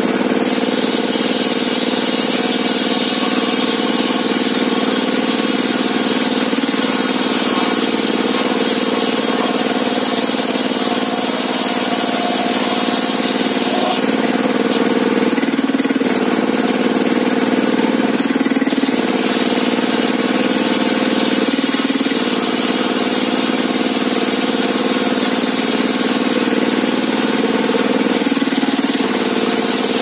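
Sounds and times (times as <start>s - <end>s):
table saw machinery droning: 0.0s - 30.0s.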